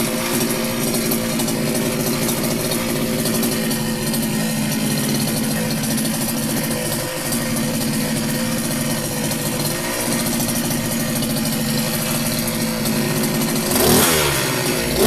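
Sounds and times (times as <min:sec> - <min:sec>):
strimmer engine idling: 0:00.0 - 0:15.0.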